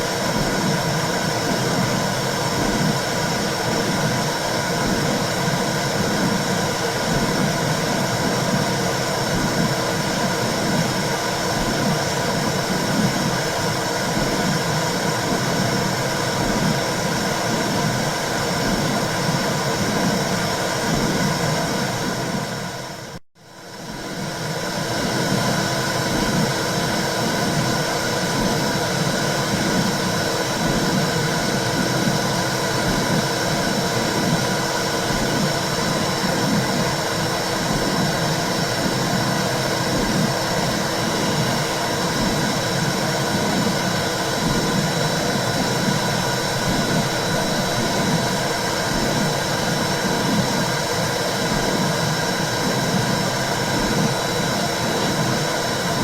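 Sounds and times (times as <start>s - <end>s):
low pulsing heartbeat: 0.2s - 22.5s, 23.9s - 56.0s.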